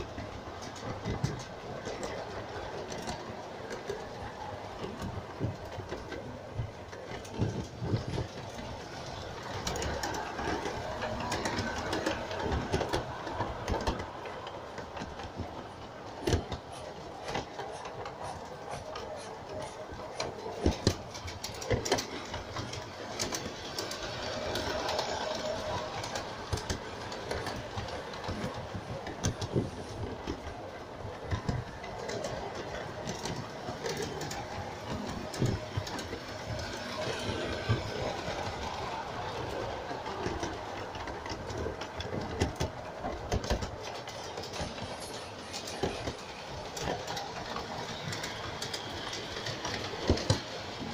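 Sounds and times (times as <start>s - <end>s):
clicks and knocks of track: 0.0s - 50.9s
model train wheels rumbling: 0.0s - 50.9s.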